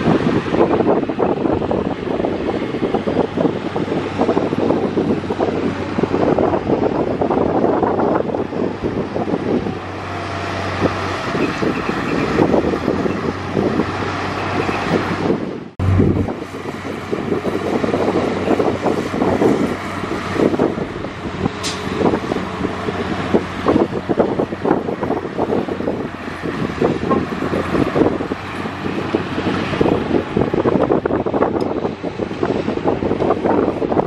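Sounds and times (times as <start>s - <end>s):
diesel machinery engine hum: 0.0s - 34.0s
wind buffeting microphone: 0.0s - 34.0s.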